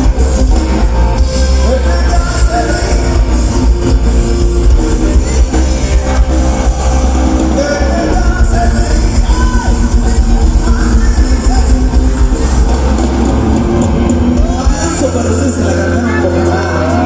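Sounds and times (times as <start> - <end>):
live band music with heavy bass: 0.0 - 17.0.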